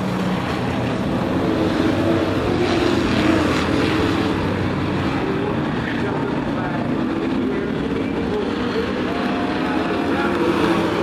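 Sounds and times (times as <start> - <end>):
race truck engine running: 0.0 - 11.0.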